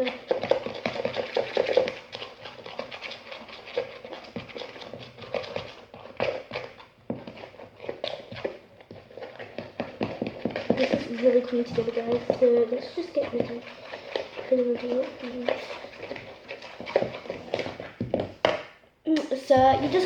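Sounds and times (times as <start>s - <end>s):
slime squelching while stirred: 0.0s - 20.0s.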